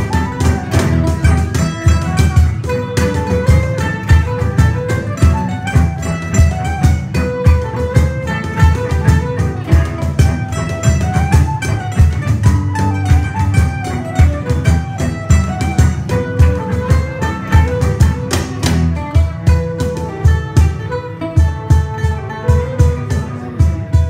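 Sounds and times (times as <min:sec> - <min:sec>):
acoustic band playing a jig: 0:00.0 - 0:24.0
hand percussion thumps: 0:00.0 - 0:24.0.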